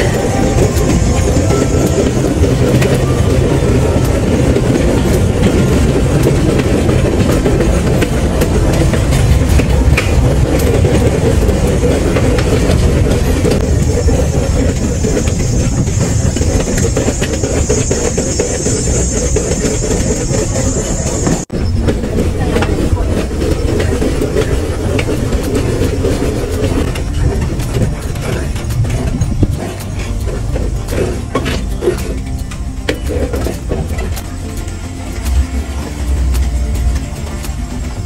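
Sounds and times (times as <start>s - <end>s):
steel wheels rumbling on rails: 0.0s - 38.0s
wheels clicking over rail joints: 0.0s - 38.0s.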